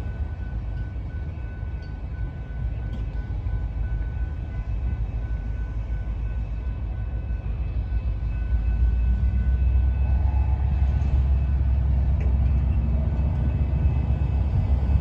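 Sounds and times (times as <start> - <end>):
approaching train rumble: 0.0 - 15.0.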